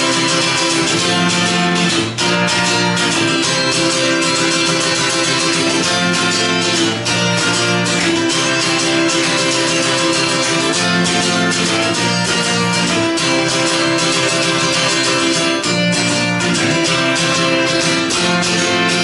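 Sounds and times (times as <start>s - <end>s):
acoustic guitar strummed fast: 0.0s - 19.0s.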